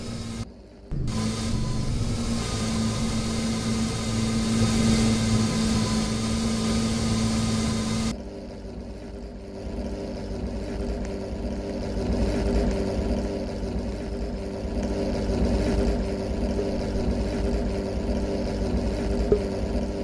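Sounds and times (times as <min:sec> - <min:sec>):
car engine running: 0:00.0 - 0:08.1, 0:08.7 - 0:20.0.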